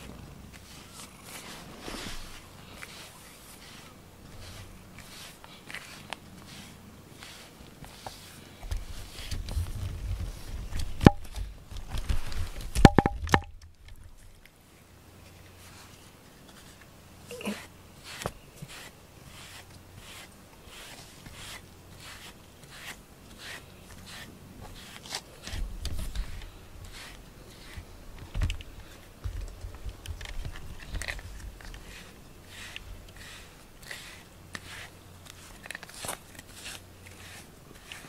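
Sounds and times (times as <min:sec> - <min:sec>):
brush rasping through cat fur: 0:00.0 - 0:11.4, 0:15.3 - 0:38.0.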